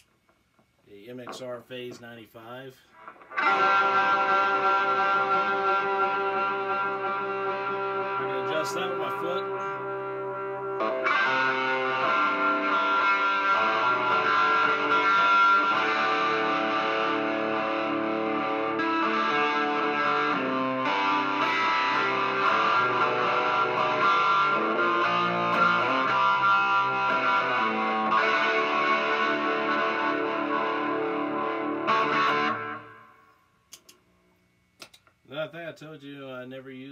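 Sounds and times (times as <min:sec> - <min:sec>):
electric guitar ringing chords: 0:02.9 - 0:33.4.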